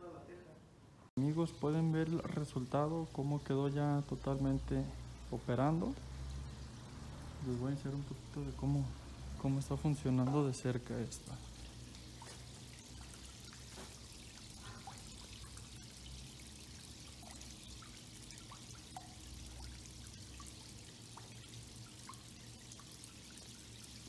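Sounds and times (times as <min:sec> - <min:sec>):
water dripping: 0:01.2 - 0:24.0
water trickling down stone wall: 0:01.2 - 0:24.0.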